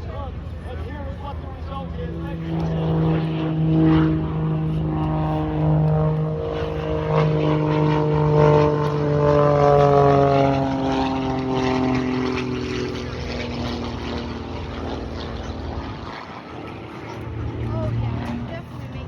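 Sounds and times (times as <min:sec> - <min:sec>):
propeller airplane flying past: 0:00.0 - 0:19.0.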